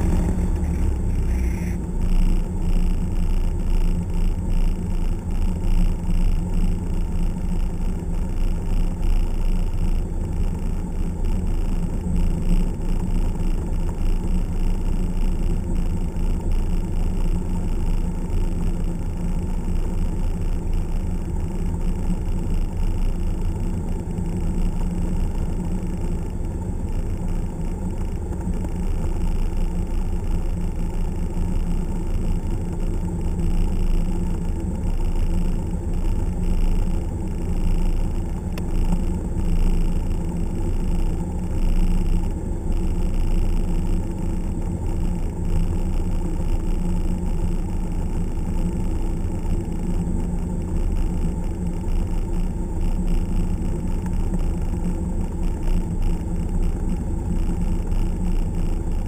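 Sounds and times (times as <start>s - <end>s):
airplane engine low rumble: 0.0s - 59.0s.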